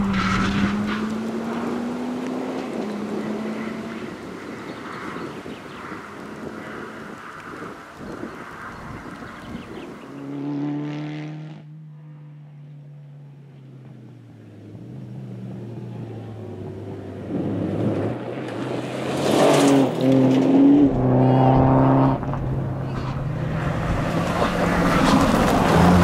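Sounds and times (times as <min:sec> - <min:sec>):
rally car engine passing: 0:00.0 - 0:05.3, 0:09.4 - 0:26.0.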